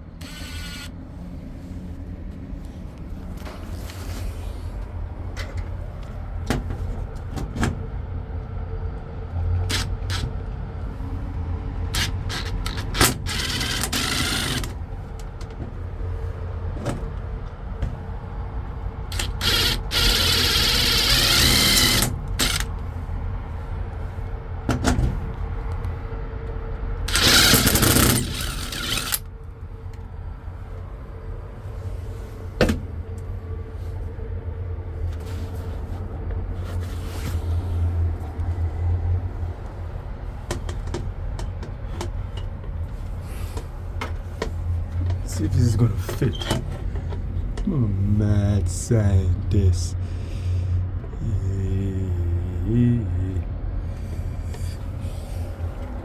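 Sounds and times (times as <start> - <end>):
steady low rumble: 0.0 - 20.2, 28.3 - 56.0
faint steady hum: 0.0 - 56.0.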